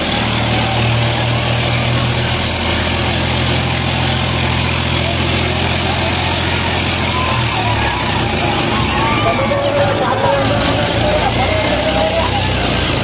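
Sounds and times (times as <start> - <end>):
loud noisy background: 0.0 - 13.0
tractor diesel engine running: 0.0 - 13.0.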